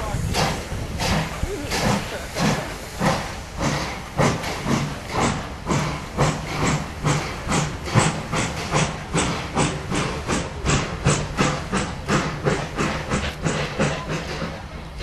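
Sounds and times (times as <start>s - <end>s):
steam hissing: 0.0s - 15.0s
steam locomotive chuffing: 0.0s - 15.0s.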